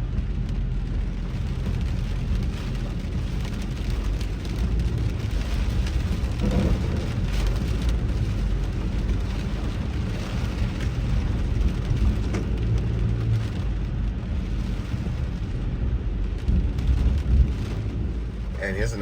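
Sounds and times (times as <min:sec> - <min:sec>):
car engine and tyres rumbling: 0:00.0 - 0:19.0
rain and spray hissing: 0:00.0 - 0:19.0.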